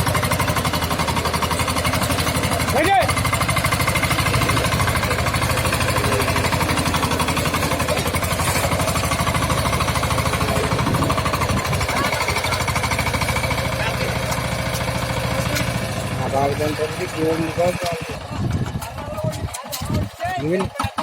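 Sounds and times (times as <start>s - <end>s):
tractor diesel engine chugging: 0.0s - 21.0s.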